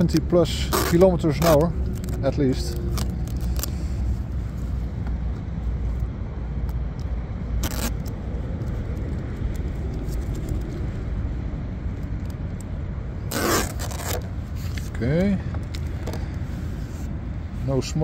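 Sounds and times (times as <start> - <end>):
clicks and scrapes of handling: 0.0 - 10.8, 13.3 - 17.1
low outdoor rumble: 0.0 - 18.0.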